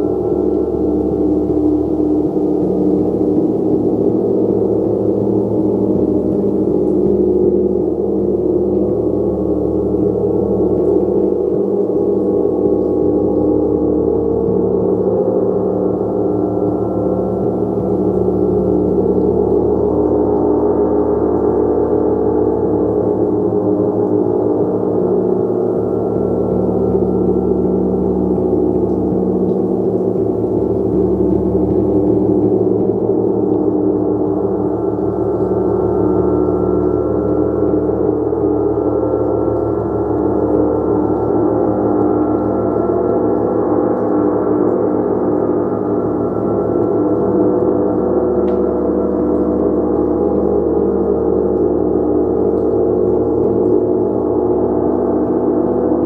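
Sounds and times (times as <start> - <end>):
gong sustained wash: 0.0 - 56.0.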